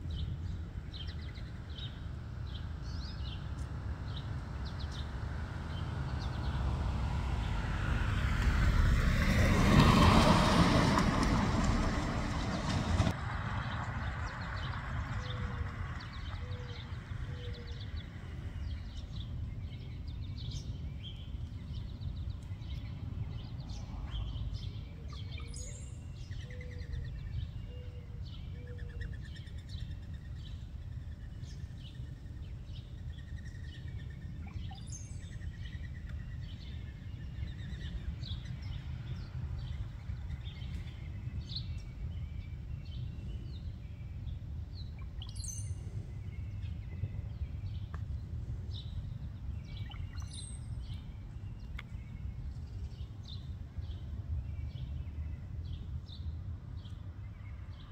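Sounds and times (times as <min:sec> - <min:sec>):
small birds chirping: 0:00.0 - 0:06.7, 0:13.6 - 0:57.9
steady low rumble: 0:00.0 - 0:57.9.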